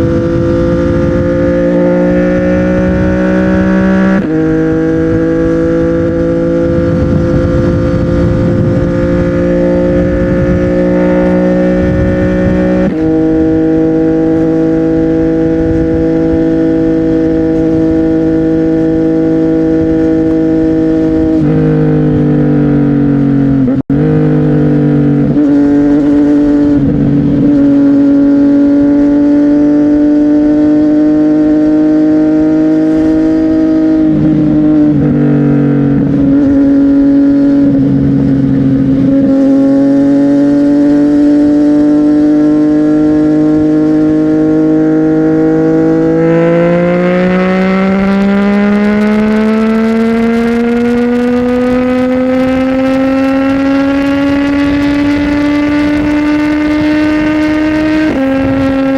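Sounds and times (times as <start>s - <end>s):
motorcycle engine while riding: 0.0s - 58.9s.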